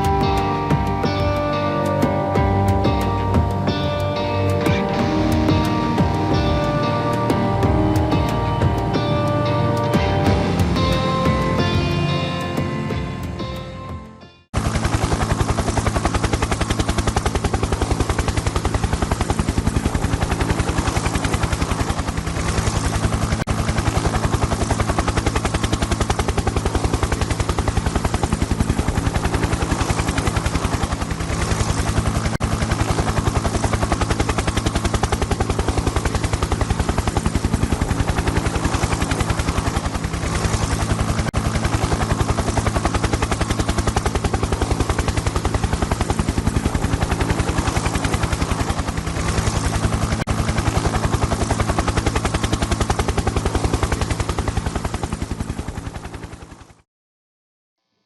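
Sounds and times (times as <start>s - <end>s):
helicopter engine drone: 0.0s - 56.8s
helicopter rotor blades chopping: 0.0s - 56.8s.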